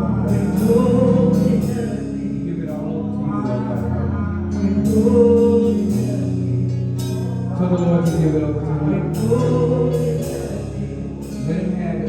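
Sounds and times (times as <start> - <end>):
bass notes: 0.0 - 12.0
sustained keyboard chords: 0.0 - 12.0.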